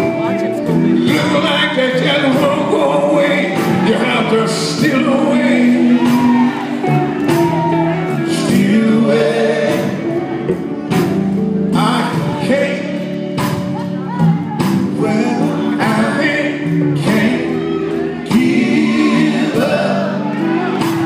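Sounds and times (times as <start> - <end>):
gospel band playing: 0.0 - 21.0
man singing lead: 0.0 - 21.0.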